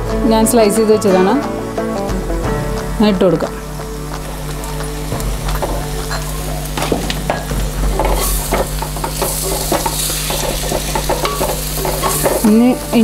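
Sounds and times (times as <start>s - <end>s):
masala sizzling: 0.0s - 13.0s.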